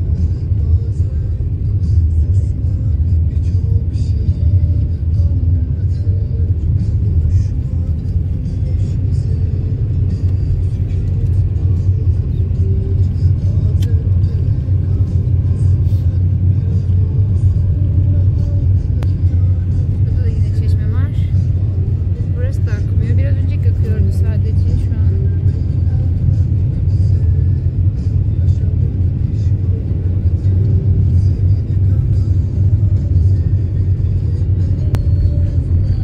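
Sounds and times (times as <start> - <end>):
car engine rumble: 0.0 - 36.0.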